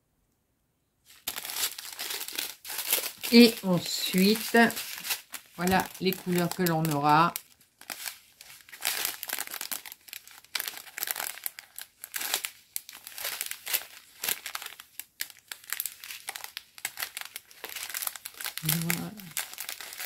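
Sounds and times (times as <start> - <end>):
plastic bags crinkling: 1.1 - 20.0.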